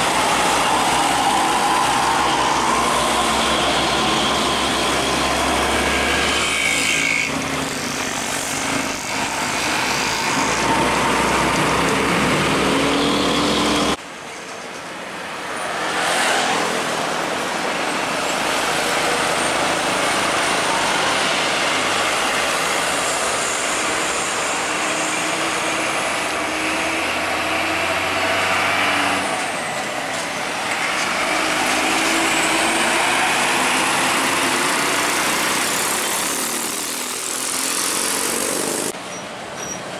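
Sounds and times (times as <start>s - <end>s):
heavy diesel trucks passing: 0.0s - 39.9s
steady traffic: 0.0s - 39.9s.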